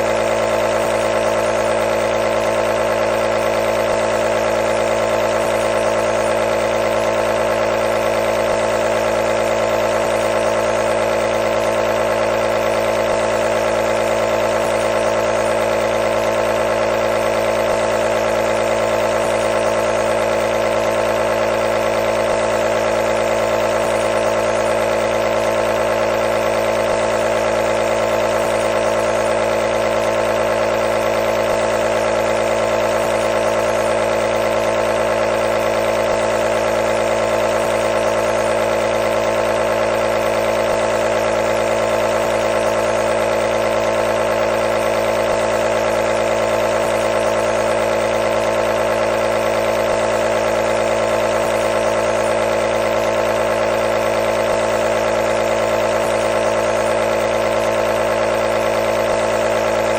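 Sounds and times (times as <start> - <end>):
compressor motor humming: 0.0 - 59.9.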